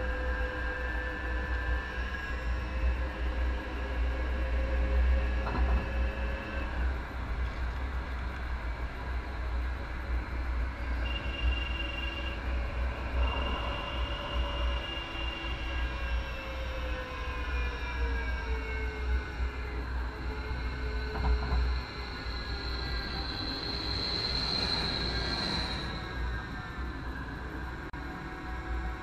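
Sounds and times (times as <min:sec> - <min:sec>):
faint whining tones: 0:00.0 - 0:29.0
light rail train rumbling: 0:00.0 - 0:29.0.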